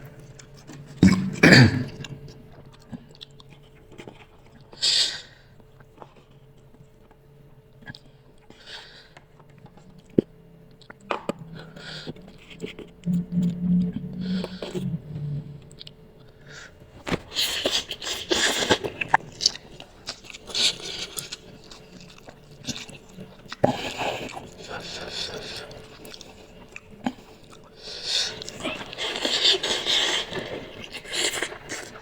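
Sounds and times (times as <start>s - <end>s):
person chewing noodles: 0.0s - 7.2s, 7.8s - 32.0s.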